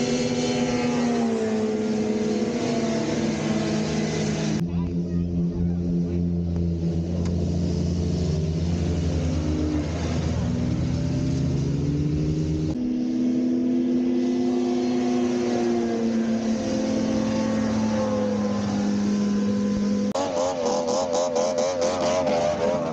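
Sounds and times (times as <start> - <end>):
snowmobile engines revving: 0.0 - 22.9.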